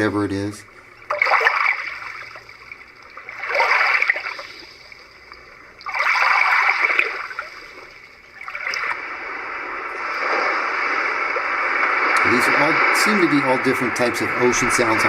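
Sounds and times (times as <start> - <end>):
ocean waves from small speaker: 0.0 - 15.0.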